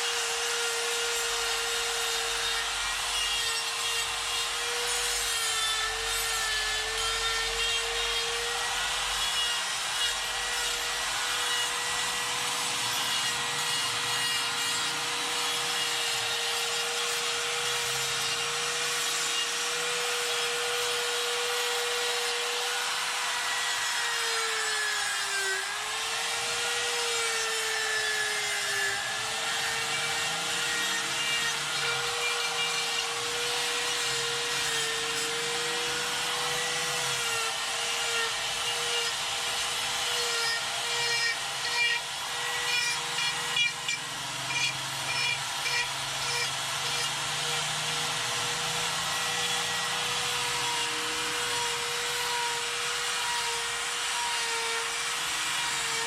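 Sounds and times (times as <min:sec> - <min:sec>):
die grinder grinding wood: 0:00.0 - 0:56.0.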